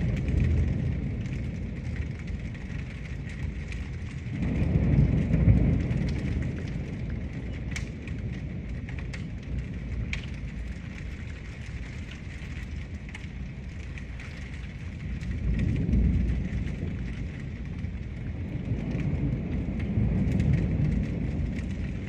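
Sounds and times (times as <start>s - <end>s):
drops ticking on a surface: 0.0s - 22.0s
low rumble: 0.0s - 22.0s
steady rain: 0.0s - 22.0s.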